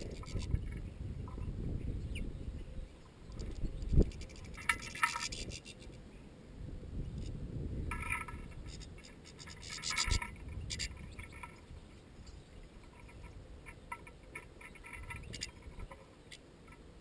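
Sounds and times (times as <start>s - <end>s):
birds twittering: 0.0s - 6.4s, 8.4s - 16.8s.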